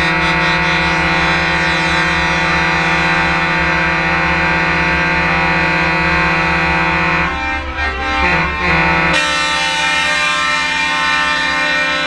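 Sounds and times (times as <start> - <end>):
truck air horns chord: 0.0 - 12.0.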